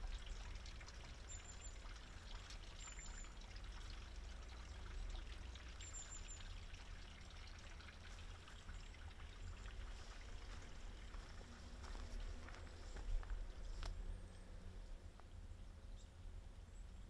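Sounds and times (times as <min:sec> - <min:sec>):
faint water trickling: 0:00.0 - 0:17.0.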